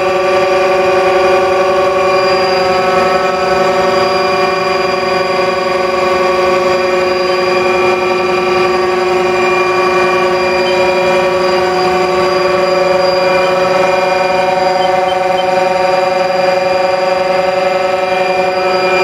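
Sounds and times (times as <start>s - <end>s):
lathe machine whine and hum: 0.0s - 19.0s.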